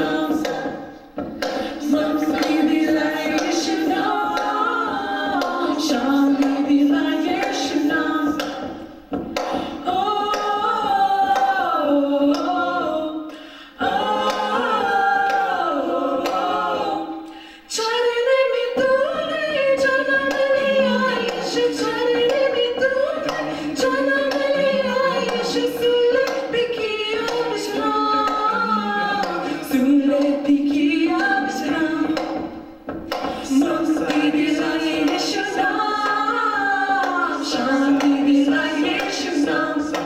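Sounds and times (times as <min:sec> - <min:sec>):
hand claps: 0:00.0 - 0:12.6, 0:14.0 - 0:16.9, 0:20.2 - 0:40.0
group singing in harmony: 0:00.0 - 0:40.0.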